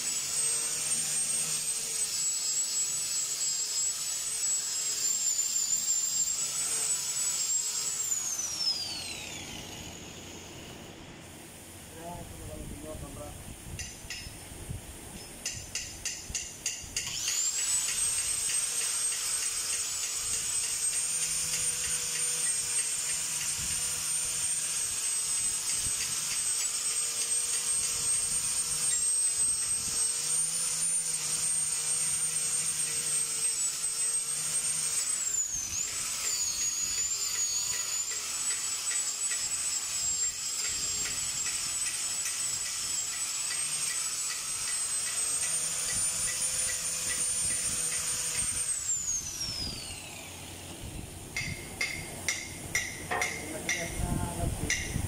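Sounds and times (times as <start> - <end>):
angle grinder wire brush whine: 0.0 - 55.0.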